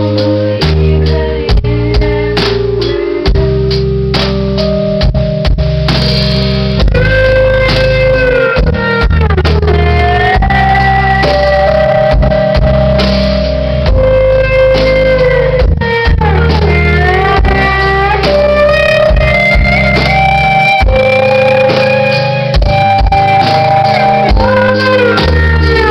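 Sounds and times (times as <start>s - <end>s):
bass guitar: 0.0s - 25.9s
electric guitar lead: 0.0s - 25.9s.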